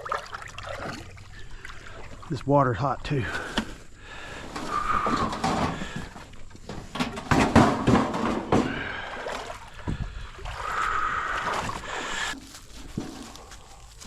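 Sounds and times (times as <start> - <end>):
water splashing around a boat: 0.0 - 3.0, 4.7 - 14.0.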